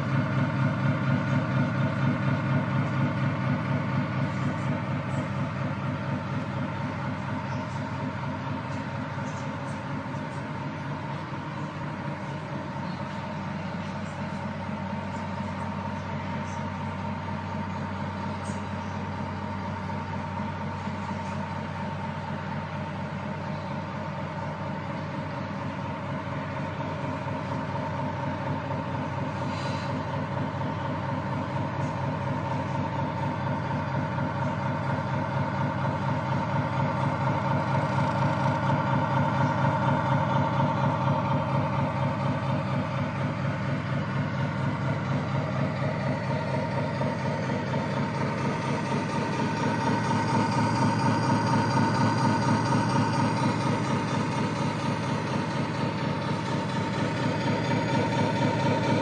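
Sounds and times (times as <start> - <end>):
simulated truck engine idling: 0.0 - 59.0.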